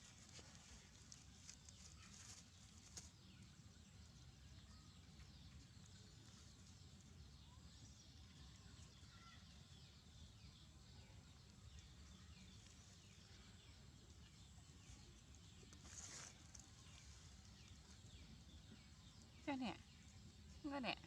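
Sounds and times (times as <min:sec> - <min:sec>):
faint high chirping: 0:00.1 - 0:21.0.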